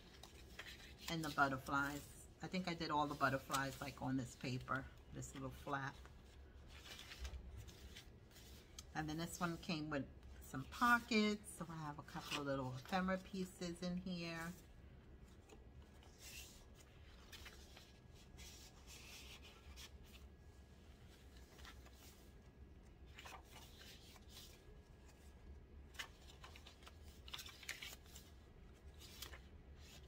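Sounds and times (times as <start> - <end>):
paper rustling: 0.0 - 2.1, 3.0 - 9.8, 14.4 - 30.0.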